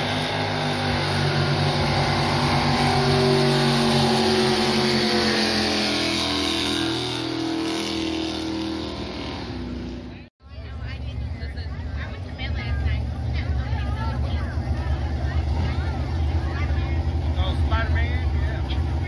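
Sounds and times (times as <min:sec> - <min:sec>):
jet boat engines passing: 0:00.0 - 0:19.0.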